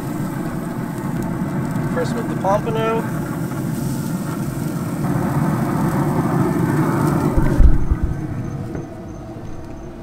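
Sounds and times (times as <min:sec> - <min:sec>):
fish sizzling on a grill: 0:00.0 - 0:09.2.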